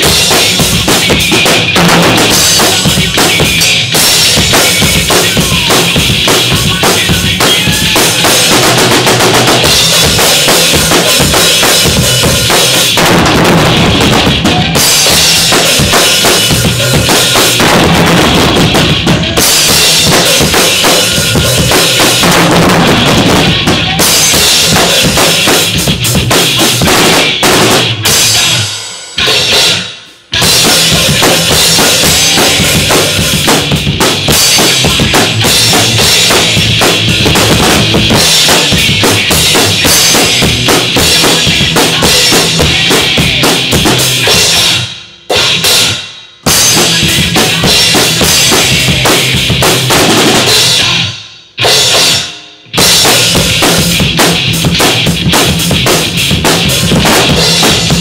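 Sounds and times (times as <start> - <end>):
drum kit playing fast metal beat: 0.0 - 58.0.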